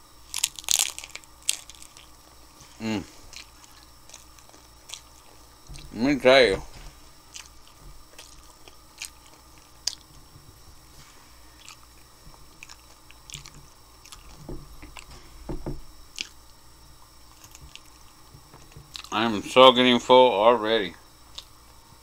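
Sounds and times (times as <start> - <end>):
person chewing crunchy food: 0.0 - 19.2, 21.3 - 22.0.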